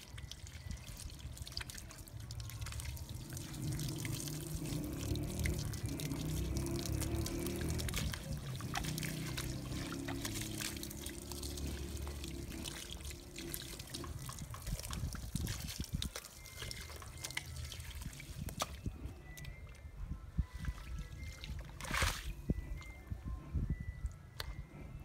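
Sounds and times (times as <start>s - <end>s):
hose water splashing on rug: 0.0s - 18.8s, 20.6s - 22.4s.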